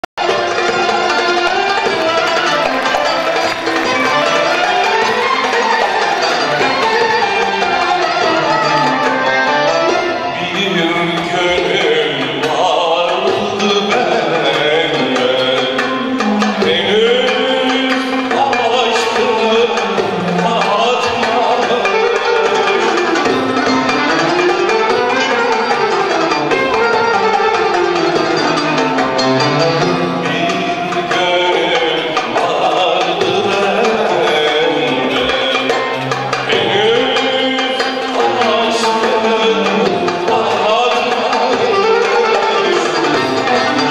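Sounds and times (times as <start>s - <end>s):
man singing: 0.2s - 43.9s
oud violin and kanun melody: 0.2s - 43.9s
steady percussion beat: 0.2s - 43.9s.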